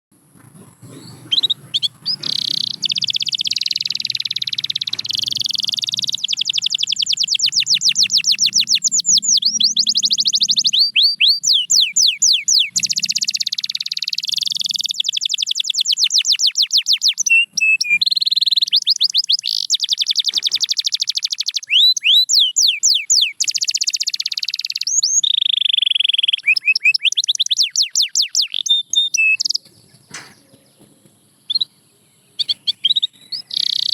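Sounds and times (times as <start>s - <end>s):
canary singing trills: 0.3s - 33.9s.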